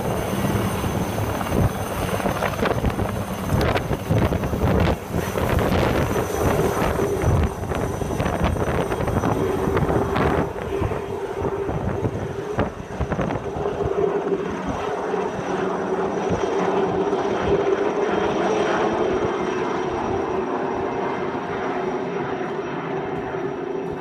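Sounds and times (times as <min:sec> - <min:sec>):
helicopter engine tone: 0:00.0 - 0:24.0
helicopter rotor chop: 0:00.0 - 0:24.0.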